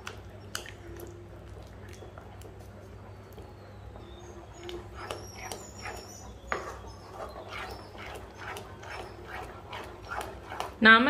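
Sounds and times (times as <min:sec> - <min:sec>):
spatula squelching through mash: 0:00.0 - 0:11.0.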